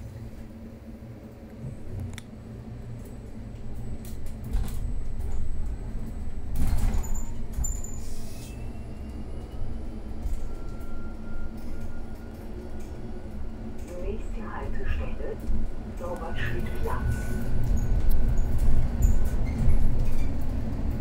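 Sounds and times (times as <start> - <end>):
bus interior low hum: 0.0 - 21.0.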